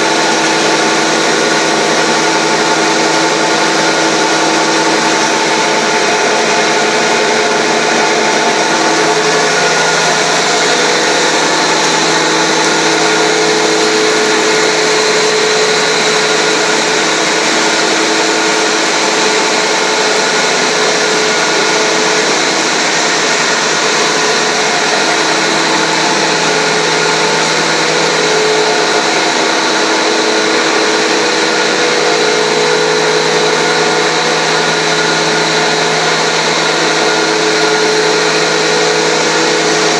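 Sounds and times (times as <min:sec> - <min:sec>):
grinder machine whirring: 0:00.0 - 0:39.9.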